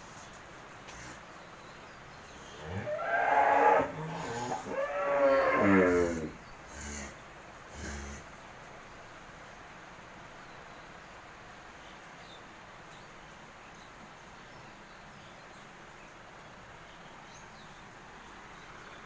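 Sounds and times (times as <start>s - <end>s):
cattle shed background noise: 0.0s - 19.0s.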